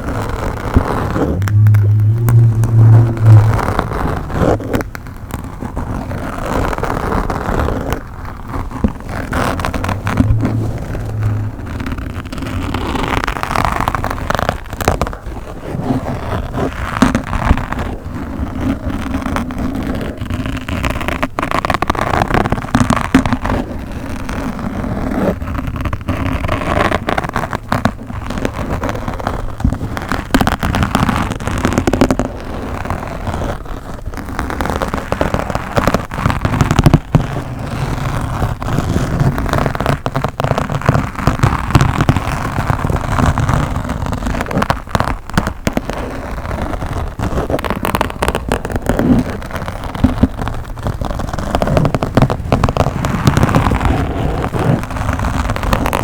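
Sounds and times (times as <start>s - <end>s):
microphone scratching: 0.0s - 56.0s.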